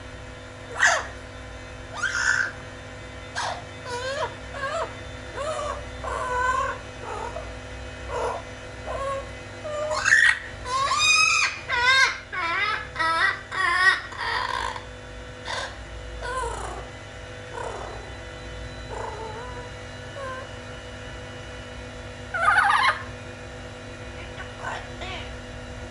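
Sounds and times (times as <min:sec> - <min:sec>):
parrot calling: 0:00.7 - 0:01.2, 0:01.8 - 0:18.2, 0:18.8 - 0:20.6, 0:22.3 - 0:23.2, 0:24.0 - 0:25.4.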